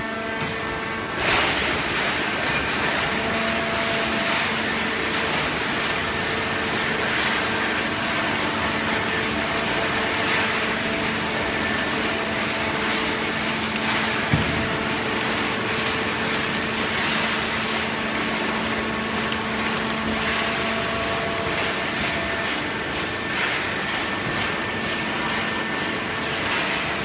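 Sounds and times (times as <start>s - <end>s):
hydraulic press motor hum and whine: 0.0s - 27.0s.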